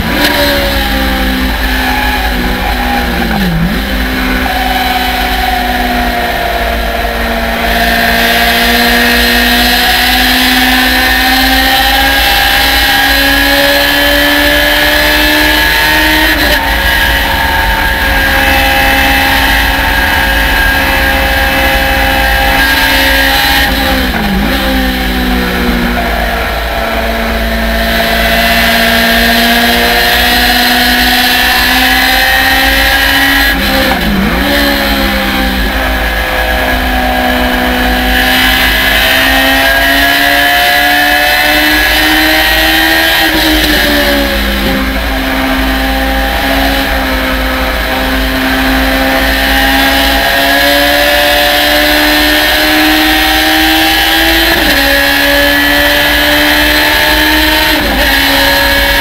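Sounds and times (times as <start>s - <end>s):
gear changes: 0.0s - 59.0s
race car engine accelerating: 0.0s - 59.0s
wind and road noise: 0.0s - 59.0s.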